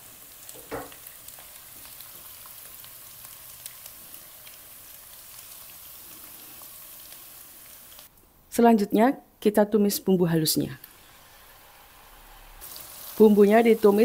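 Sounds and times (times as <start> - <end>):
food sizzling in hot oil: 0.0 - 8.1, 10.8 - 14.0.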